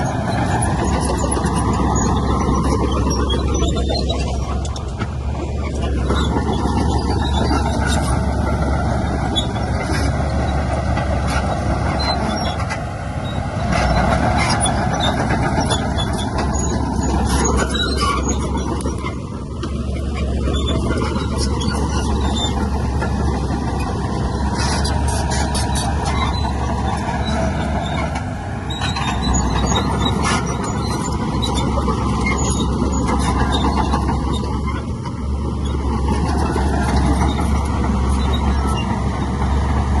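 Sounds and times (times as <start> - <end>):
diesel earthmoving machinery: 0.0 - 40.0.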